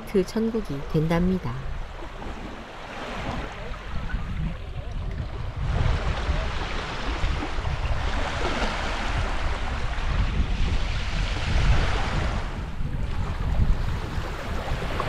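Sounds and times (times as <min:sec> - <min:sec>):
small waves washing over sand: 0:00.0 - 0:15.0
wind rumble on microphone: 0:00.0 - 0:15.0.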